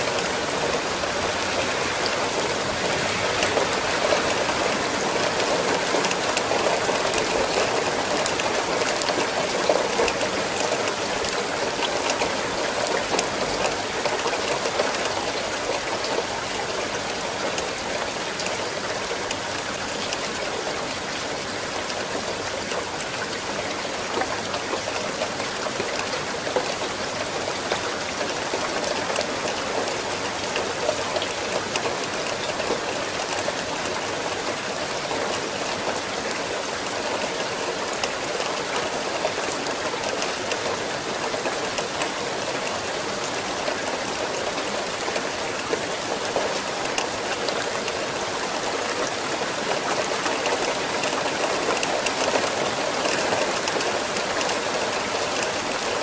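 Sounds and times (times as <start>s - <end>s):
steady rain hiss: 0.0s - 56.0s
raindrops ticking: 0.1s - 56.0s.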